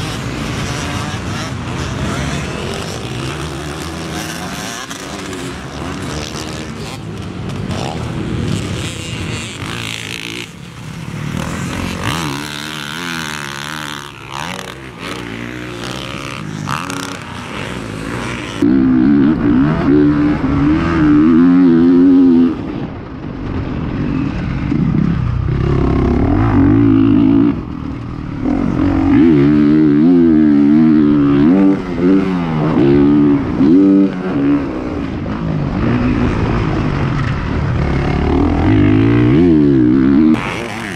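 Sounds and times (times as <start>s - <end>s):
motocross bike engine revving: 0.0s - 22.8s, 24.0s - 40.9s.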